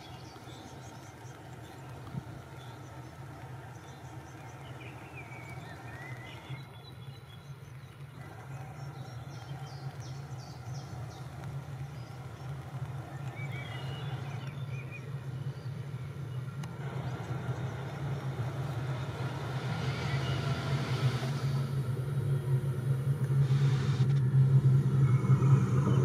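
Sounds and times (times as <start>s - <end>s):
birds chirping: 0.0s - 22.5s
electric railcar humming: 0.0s - 26.0s.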